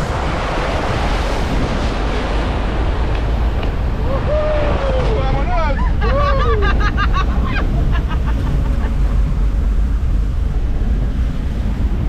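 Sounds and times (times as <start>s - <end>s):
vehicle rumbling over dirt track: 0.0s - 12.0s.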